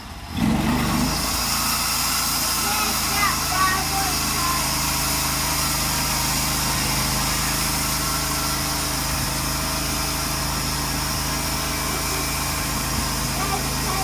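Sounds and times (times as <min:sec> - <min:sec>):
sawmill machinery droning: 0:00.0 - 0:14.0.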